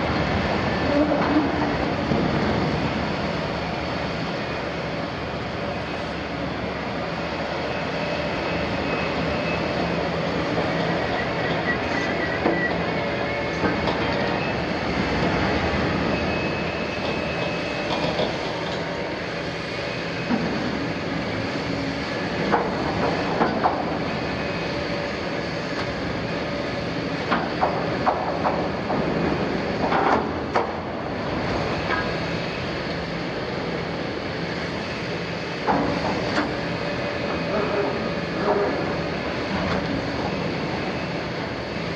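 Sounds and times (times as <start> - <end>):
excavator diesel engine and hydraulics: 0.0 - 41.9.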